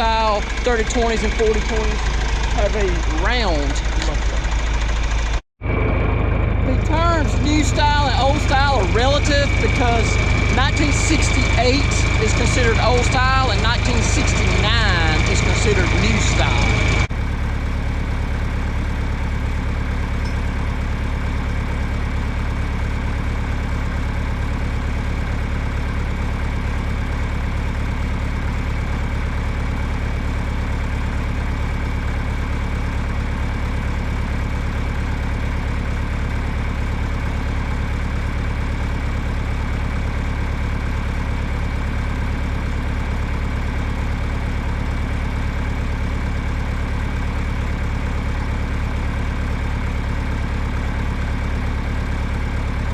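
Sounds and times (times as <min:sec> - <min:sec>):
tractor engine idling: 0:00.0 - 0:52.9.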